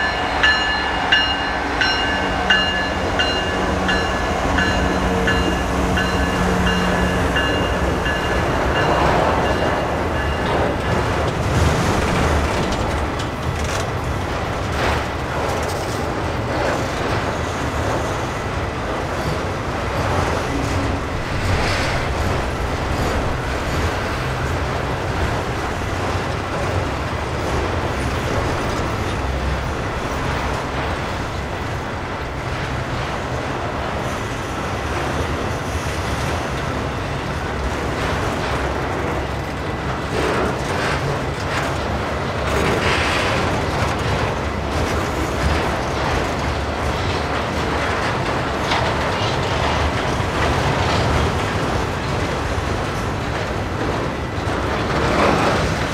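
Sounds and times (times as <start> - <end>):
freight train wheels on rails: 0.0 - 55.9.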